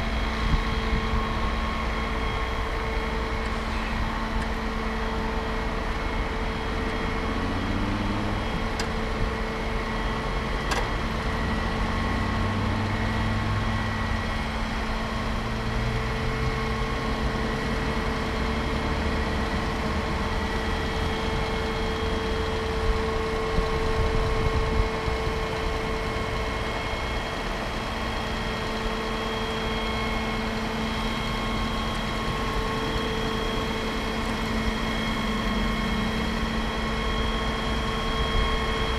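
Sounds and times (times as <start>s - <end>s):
fire truck engine running: 0.0s - 38.9s.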